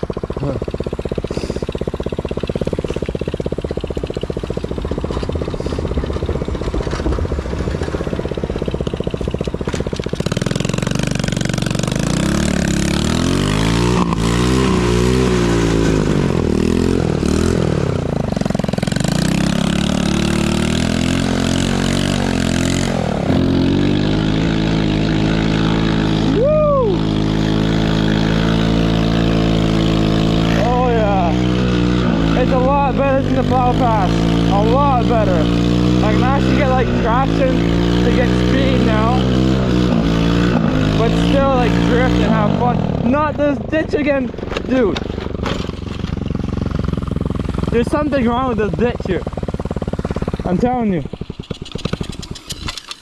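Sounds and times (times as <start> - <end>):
small atv engine revving: 0.0 - 53.0.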